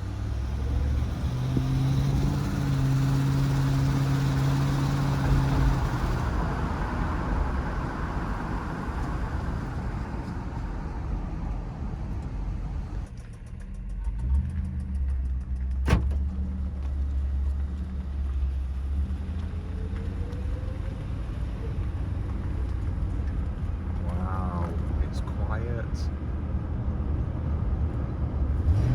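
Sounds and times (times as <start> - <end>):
car engine running: 0.0 - 28.9.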